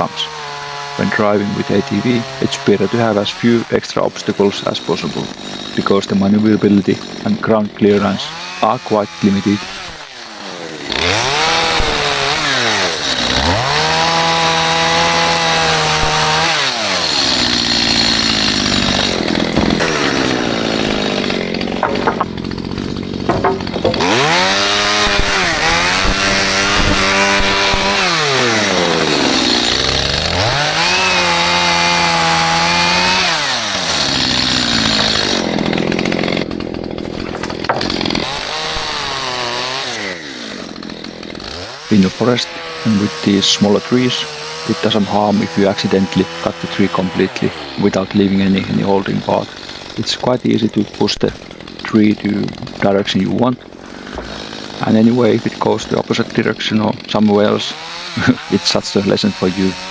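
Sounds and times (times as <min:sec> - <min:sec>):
chainsaw revving and cutting: 0:00.0 - 0:59.9.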